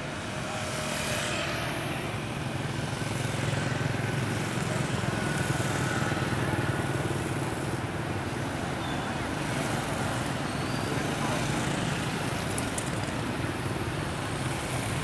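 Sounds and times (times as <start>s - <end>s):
motor scooters riding past: 0.0s - 15.0s
traffic noise: 0.0s - 15.0s.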